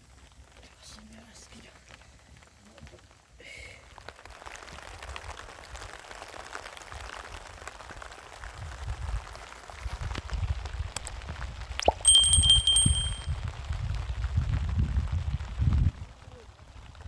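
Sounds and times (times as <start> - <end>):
rain hissing with drop ticks: 0.0 - 17.0.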